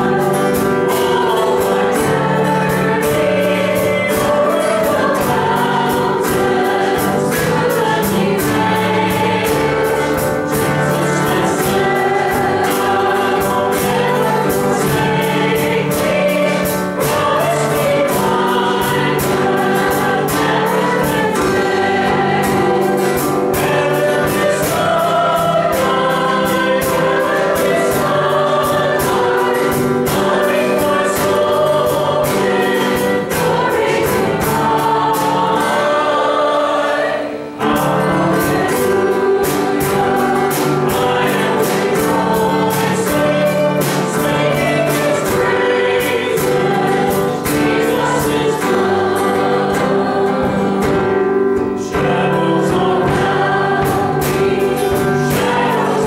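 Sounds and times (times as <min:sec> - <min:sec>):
person singing worship song: 0:00.0 - 0:56.0
strummed acoustic guitar: 0:00.0 - 0:56.0.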